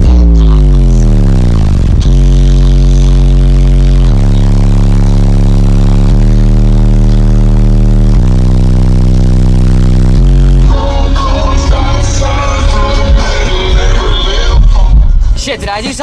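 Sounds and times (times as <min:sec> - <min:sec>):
distorted deep subwoofer bass: 0:00.0 - 0:16.0.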